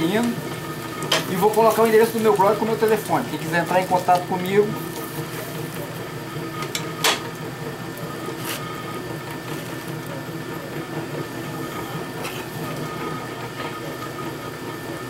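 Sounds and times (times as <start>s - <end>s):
potter's wheel motor humming: 0.0s - 15.0s.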